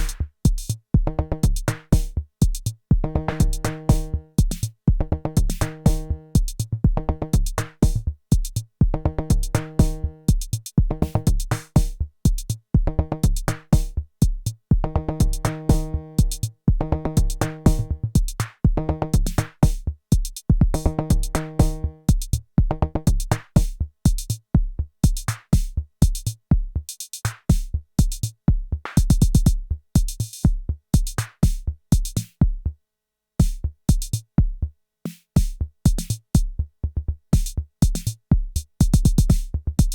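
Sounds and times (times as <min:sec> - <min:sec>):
kick drum: 0:00.0 - 0:26.8, 0:27.5 - 0:32.7, 0:33.4 - 0:34.7, 0:35.3 - 0:36.7, 0:37.3 - 0:39.9.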